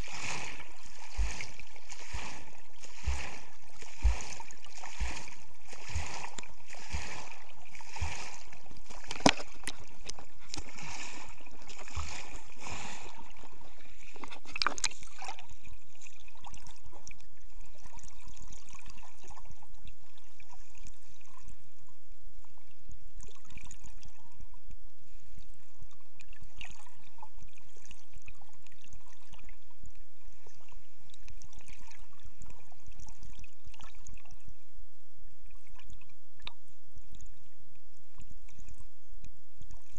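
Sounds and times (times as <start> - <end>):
underwater clicks and crackles: 0.0 - 24.8, 25.8 - 34.5, 35.4 - 39.9.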